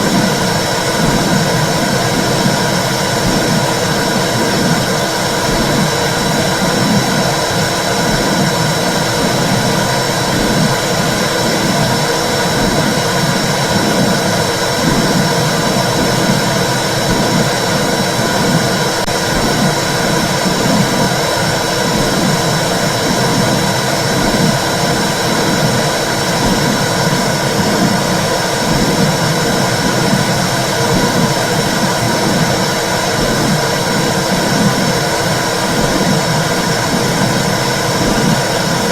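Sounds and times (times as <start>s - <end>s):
low rhythmic heartbeat pulsing: 0.0s - 38.9s.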